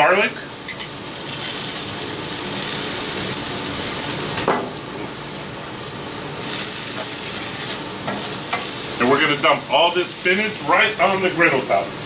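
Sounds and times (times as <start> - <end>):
butter and garlic sizzling: 0.0 - 12.0.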